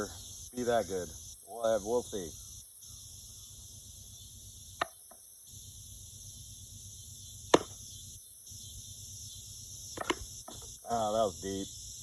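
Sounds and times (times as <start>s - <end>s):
cicada chorus: 0.0s - 12.0s.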